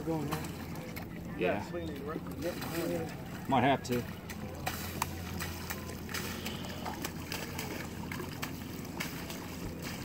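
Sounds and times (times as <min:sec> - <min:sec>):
low steady hum: 0:00.0 - 0:10.0
water sloshing and splashing: 0:00.0 - 0:10.0.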